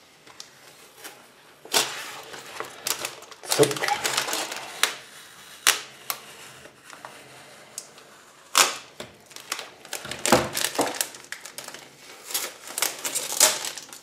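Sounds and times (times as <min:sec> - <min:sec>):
plastic packaging crinkling: 0:00.3 - 0:06.2, 0:08.5 - 0:14.0.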